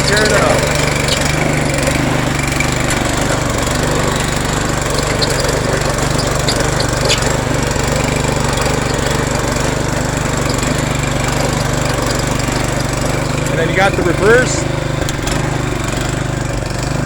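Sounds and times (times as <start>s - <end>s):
rototiller engine running: 0.0s - 17.0s.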